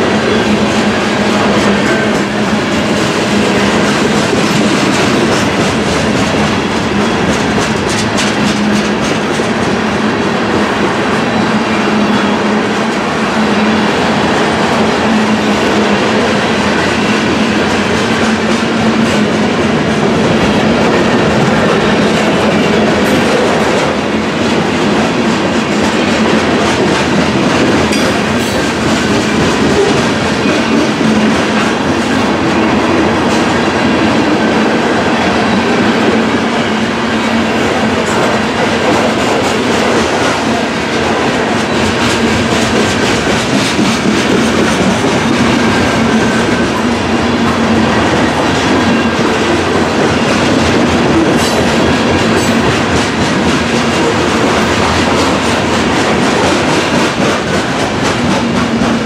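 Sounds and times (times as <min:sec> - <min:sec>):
train wheels clattering over rail joints: 0:00.0 - 0:10.7, 0:14.7 - 0:34.8, 0:37.3 - 0:59.0.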